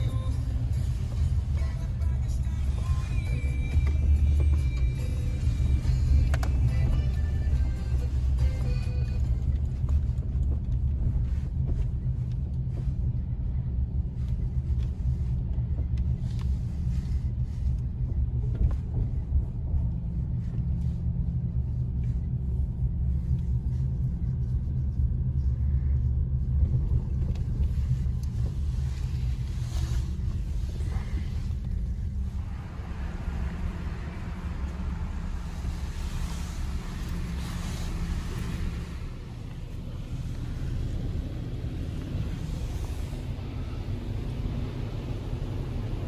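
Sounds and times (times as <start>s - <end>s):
truck engine and tyres rumbling: 0.0s - 46.0s.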